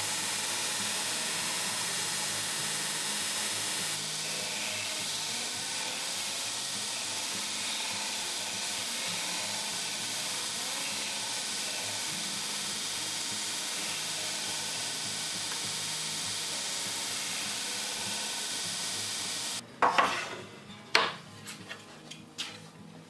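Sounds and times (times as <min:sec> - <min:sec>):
abrasive hissing on wood: 0:00.0 - 0:19.6
belt sander humming: 0:00.0 - 0:19.6.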